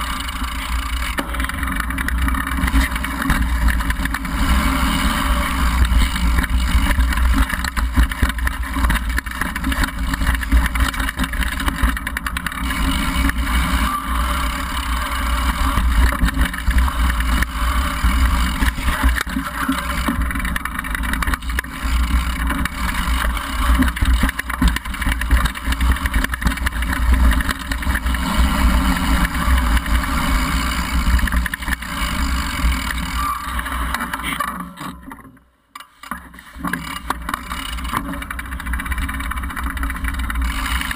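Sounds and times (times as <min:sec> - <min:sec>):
mountain bike rattling over dirt: 0:00.0 - 0:35.1, 0:35.9 - 0:40.9
knobby tyres on dirt: 0:00.0 - 0:40.9.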